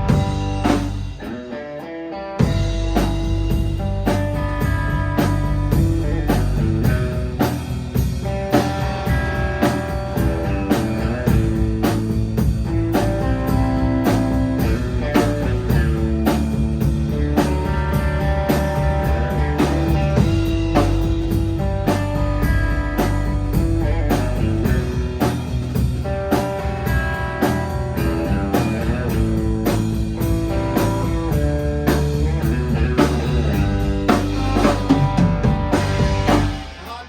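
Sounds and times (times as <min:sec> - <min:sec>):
drum kit steady beat: 0:00.0 - 0:01.5, 0:02.4 - 0:37.0
bass guitar: 0:00.0 - 0:37.0
electric guitar melody: 0:00.0 - 0:37.0.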